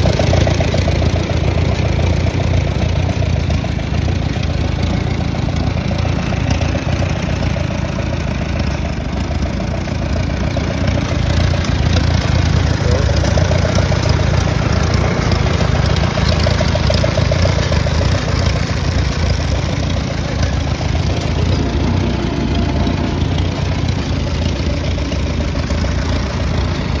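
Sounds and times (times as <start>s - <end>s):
tractor engine idling: 0.0s - 27.0s.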